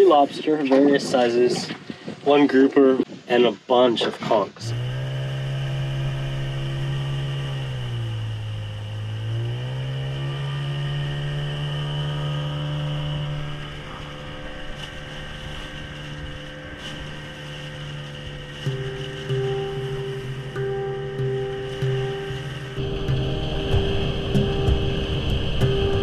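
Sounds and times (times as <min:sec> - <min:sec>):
boat motor running: 0:04.5 - 0:26.0.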